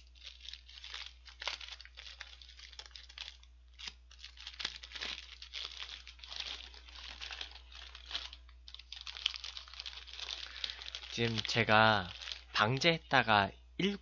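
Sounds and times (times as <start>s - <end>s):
paper wrapper crinkling: 0.0s - 13.0s.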